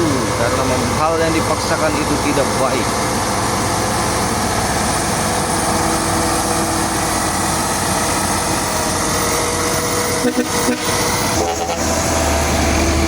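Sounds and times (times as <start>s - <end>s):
diesel truck engine labouring: 0.0s - 13.0s.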